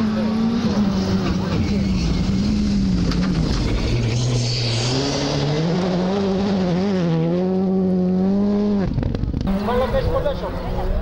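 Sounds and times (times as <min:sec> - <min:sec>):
gravel and tyre noise: 0:00.0 - 0:11.0
rally car engine accelerating: 0:00.0 - 0:11.0.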